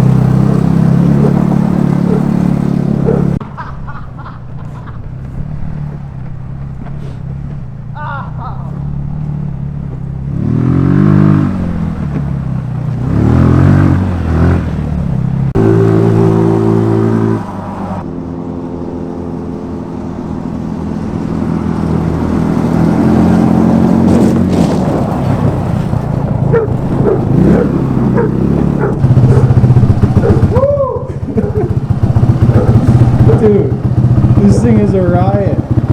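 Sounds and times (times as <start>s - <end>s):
scooter engine revving: 0.0s - 35.9s.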